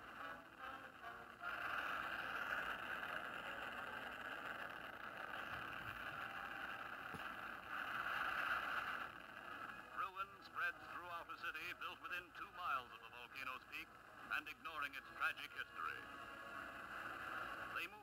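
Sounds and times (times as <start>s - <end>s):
steady rushing noise: 0.0s - 12.3s, 12.9s - 18.0s.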